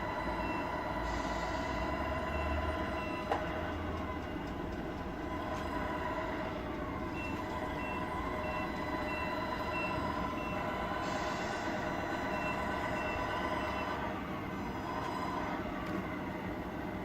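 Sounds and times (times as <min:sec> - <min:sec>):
truck engine drone: 0:00.0 - 0:17.0.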